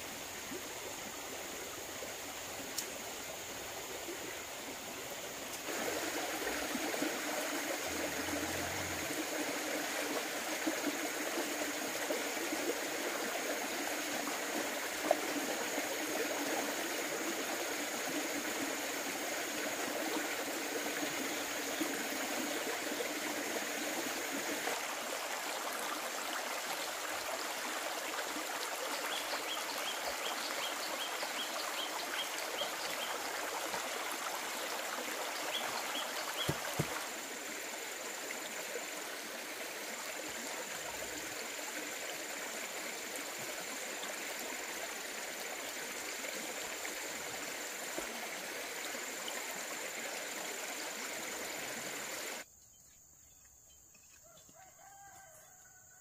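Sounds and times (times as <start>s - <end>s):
stream trickling over rocks: 0.0s - 52.5s.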